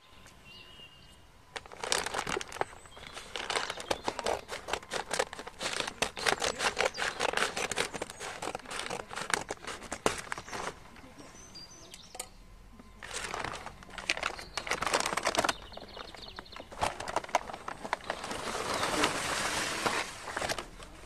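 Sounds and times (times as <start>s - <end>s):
paper wrapping crinkling: 1.5s - 11.3s, 13.0s - 21.0s.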